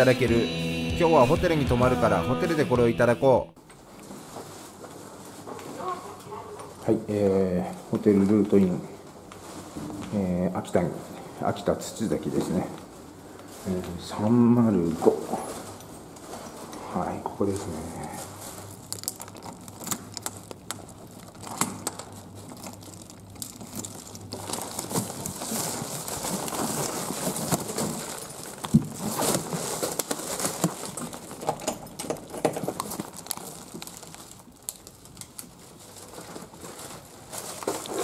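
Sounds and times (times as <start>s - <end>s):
bags rustling: 3.7s - 38.0s.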